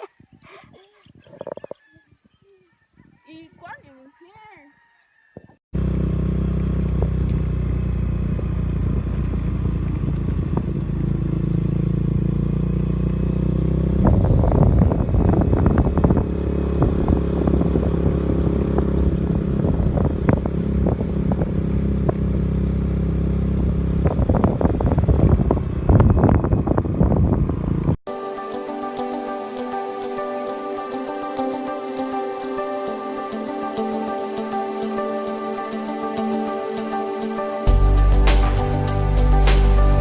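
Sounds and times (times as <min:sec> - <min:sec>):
engine running: 0:05.8 - 0:40.0.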